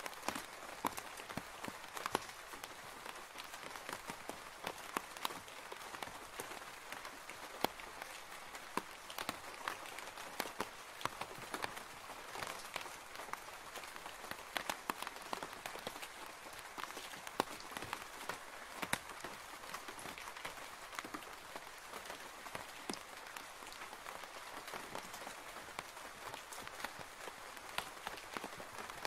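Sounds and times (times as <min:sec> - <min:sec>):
rain falling on a roof: 0:00.0 - 0:29.0.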